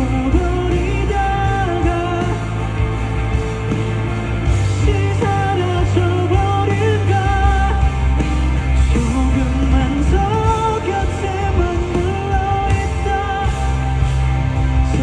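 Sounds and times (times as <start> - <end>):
live band playing pop-rock: 0.0 - 15.0.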